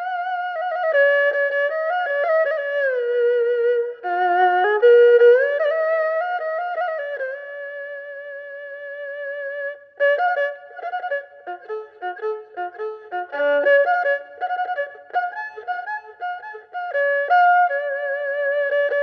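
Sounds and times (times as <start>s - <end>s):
erhu playing folk melody: 0.0s - 19.0s.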